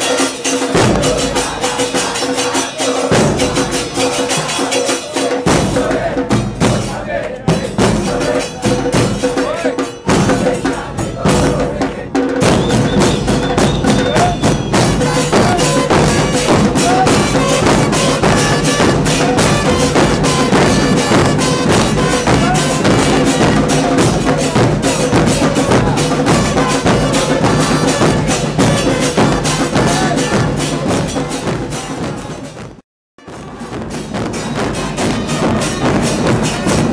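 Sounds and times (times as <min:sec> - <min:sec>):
drum and percussion band playing: 0:00.0 - 0:36.9.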